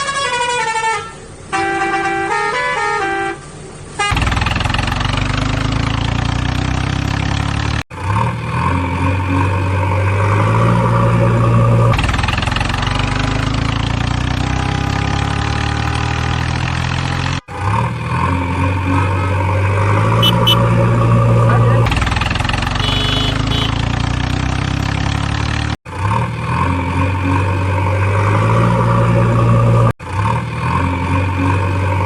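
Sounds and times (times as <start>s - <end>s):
heavy vehicle engine revving: 4.1s - 32.0s.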